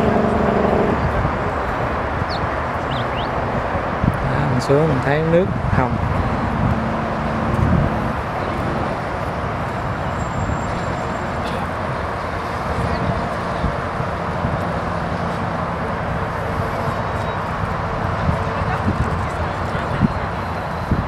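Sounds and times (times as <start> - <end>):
freeway traffic hum: 0.0 - 21.0.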